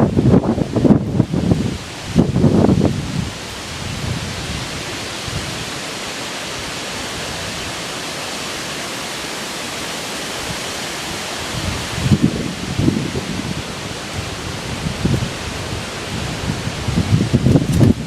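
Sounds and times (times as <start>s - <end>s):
wind blowing through trees: 0.0s - 18.0s.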